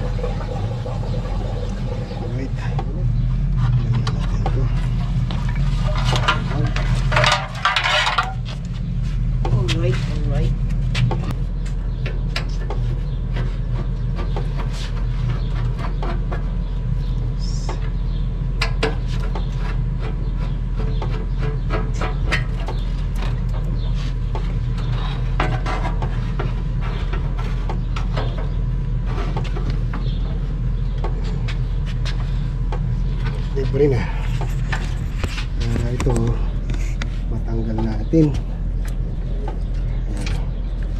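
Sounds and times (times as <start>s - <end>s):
low machine hum: 0.0s - 40.9s.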